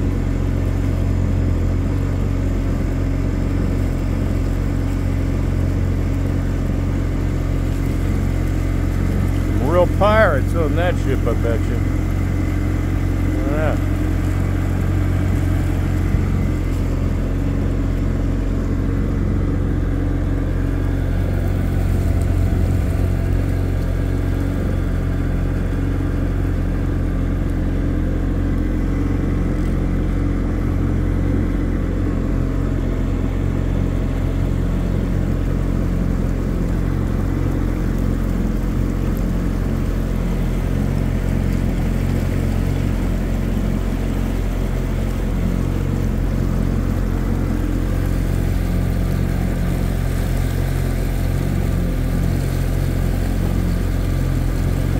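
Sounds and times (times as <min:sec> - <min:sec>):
motorboat engine humming: 0:00.0 - 0:54.9.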